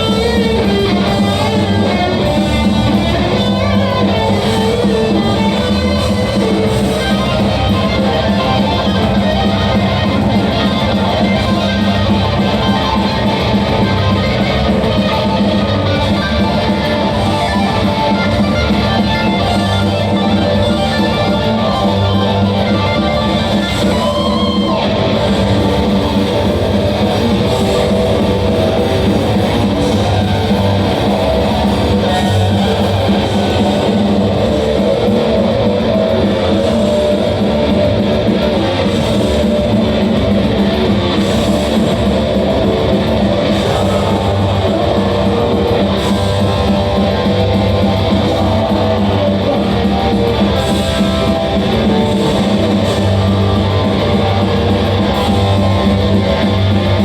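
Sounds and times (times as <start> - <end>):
heavy metal band playing live: 0.0 - 57.0.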